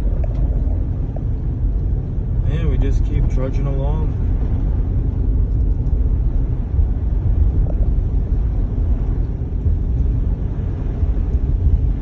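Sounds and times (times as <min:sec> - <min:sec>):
tire and road noise in car cabin: 0:00.0 - 0:12.0.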